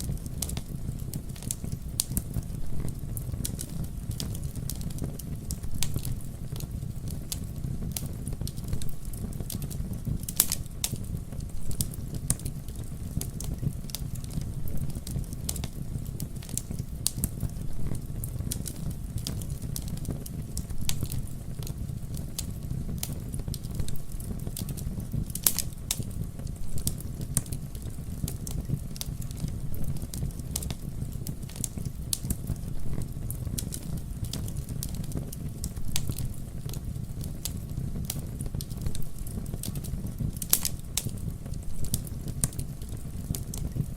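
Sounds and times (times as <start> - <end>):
low rumble of flames: 0.0 - 43.9
wood popping and crackling: 0.0 - 43.9.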